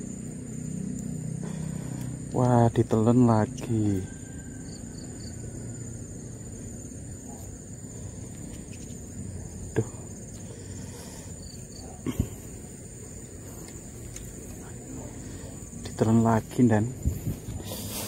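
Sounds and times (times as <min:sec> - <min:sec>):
faint low hum: 0:00.0 - 0:18.0
insects chirring: 0:00.0 - 0:18.0.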